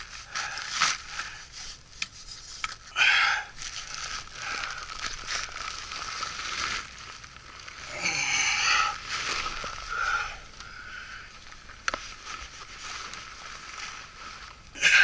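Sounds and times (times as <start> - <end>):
foil plastic crinkling and rustling: 0.0 - 15.0.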